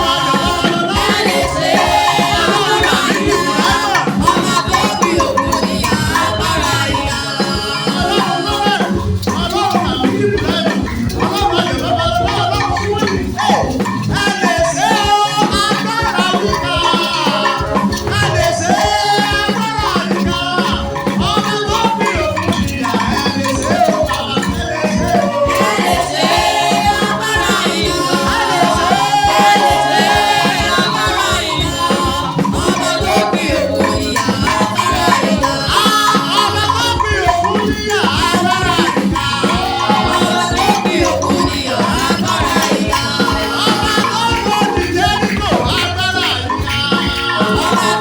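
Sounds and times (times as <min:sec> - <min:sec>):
fast drum beat: 0:00.0 - 0:48.0
melody: 0:00.0 - 0:48.0
shaker rattling: 0:00.0 - 0:48.0.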